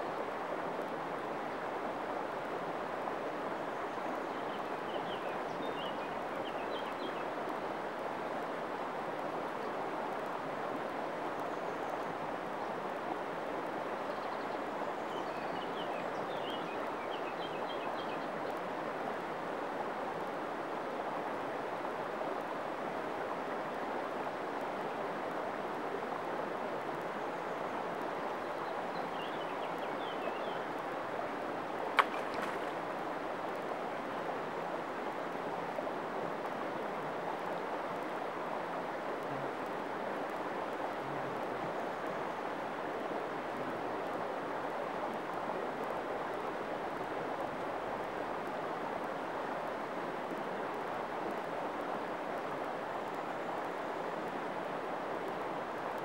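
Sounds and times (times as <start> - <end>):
river flowing over pebbles: 0.0 - 56.0.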